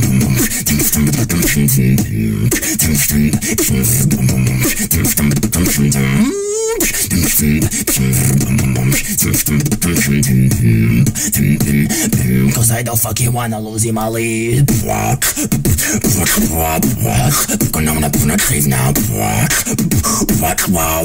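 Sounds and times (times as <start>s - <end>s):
beatboxing drum sounds: 0.0s - 21.0s
humming vocal bass line: 0.0s - 21.0s
wavering vocal sweep: 0.0s - 21.0s.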